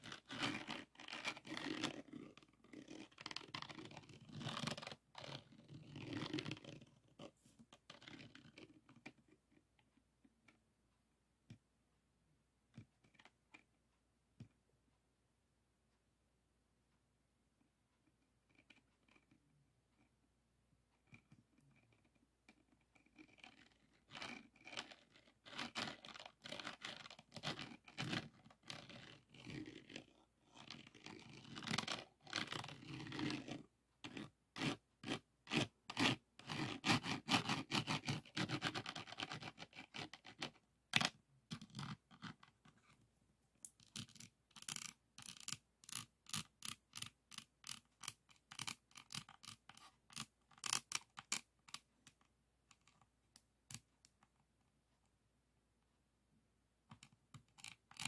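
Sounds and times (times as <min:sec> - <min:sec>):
plastic pen scratching and tapping: 0:00.0 - 0:10.6, 0:12.7 - 0:14.6, 0:18.0 - 0:20.1, 0:21.0 - 0:43.0, 0:43.6 - 0:54.5, 0:56.9 - 0:58.0.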